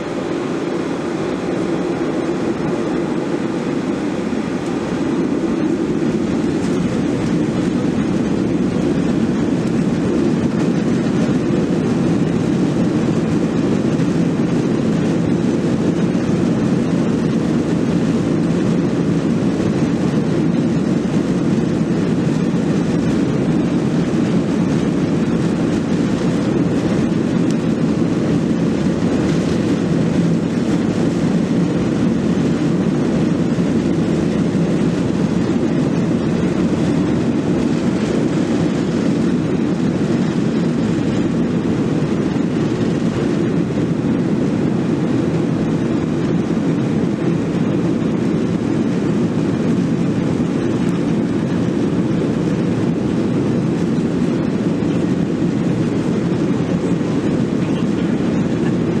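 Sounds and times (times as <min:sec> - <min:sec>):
airplane engines rumbling in cabin: 0:00.0 - 0:59.0.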